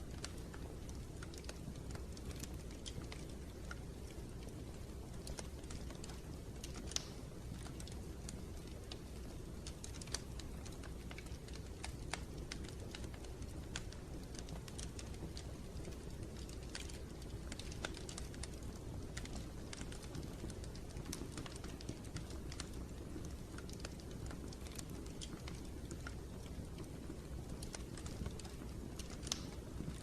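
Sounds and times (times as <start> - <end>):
fire flames rumbling: 0.0 - 30.0
fire snapping and popping: 0.0 - 30.0.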